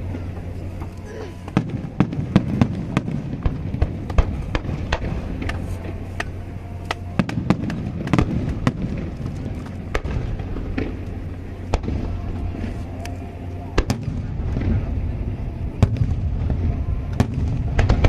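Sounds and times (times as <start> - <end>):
fireworks bangs and crackles: 0.0 - 18.0
steady low rumble: 0.0 - 18.0
heavy fireworks booms: 1.4 - 12.7, 13.7 - 18.0.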